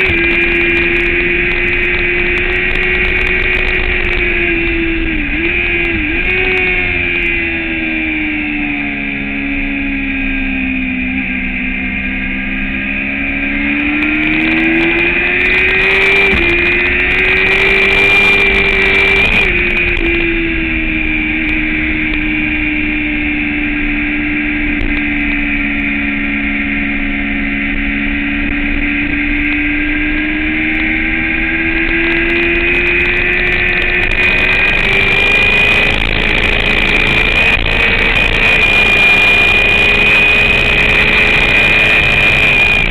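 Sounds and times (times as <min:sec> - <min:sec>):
motorcycle engine revving: 0:00.0 - 0:42.9
steady high whine: 0:00.0 - 0:42.9.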